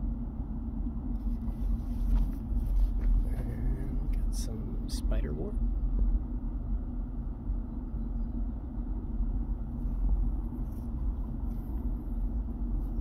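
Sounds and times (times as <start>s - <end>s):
faint steady hum: 0.0s - 13.0s
low background rumble: 0.0s - 13.0s.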